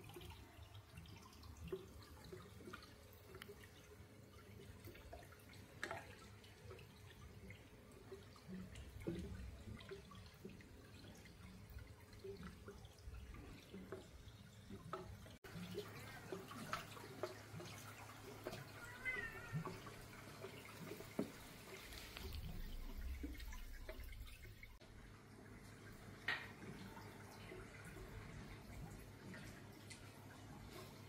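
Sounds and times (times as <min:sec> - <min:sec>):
water drips and plops: 0:00.0 - 0:31.0.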